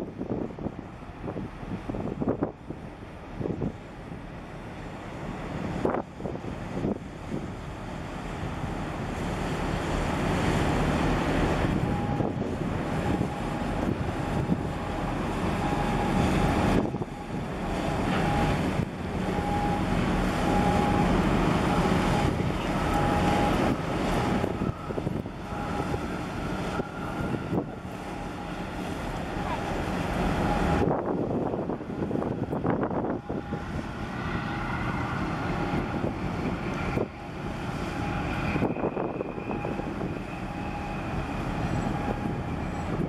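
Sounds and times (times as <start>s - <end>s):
ship engine hum: 0.0s - 43.0s
water washing along hull: 0.0s - 43.0s
wind buffeting microphone: 0.0s - 43.0s.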